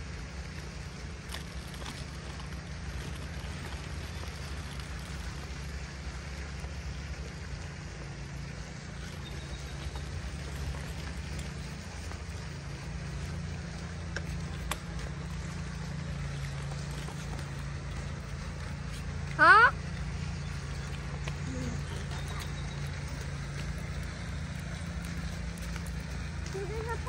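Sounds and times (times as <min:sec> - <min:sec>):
low even hum: 0:00.0 - 0:27.0.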